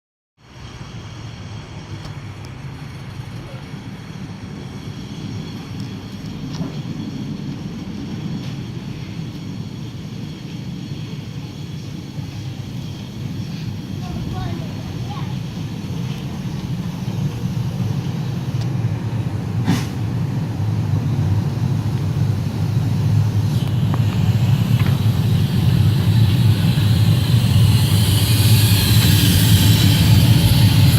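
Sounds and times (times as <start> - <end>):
train wheels rumbling on track: 0.4 - 30.9
steam hiss: 3.9 - 30.9.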